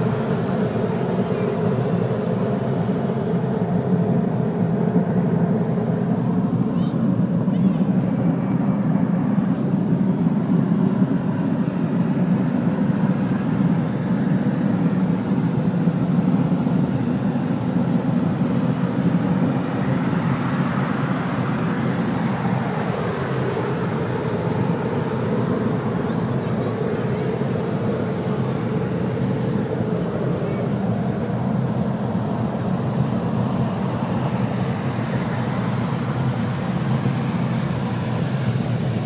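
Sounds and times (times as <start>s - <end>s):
faint steady tones: 0.0s - 39.0s
low rumble overhead: 0.0s - 39.0s.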